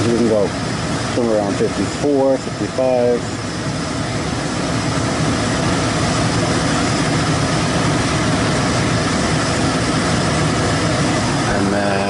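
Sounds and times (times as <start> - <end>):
furnace blower air rush: 0.0 - 12.0.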